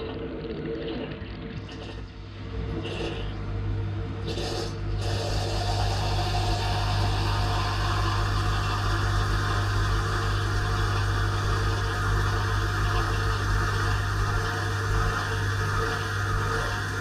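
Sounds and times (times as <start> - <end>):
dishwasher pump humming: 0.0 - 17.0.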